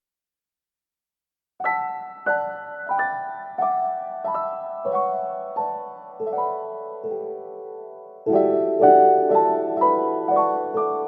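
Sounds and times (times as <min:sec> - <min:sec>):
calm piano chords: 0:01.6 - 0:11.0.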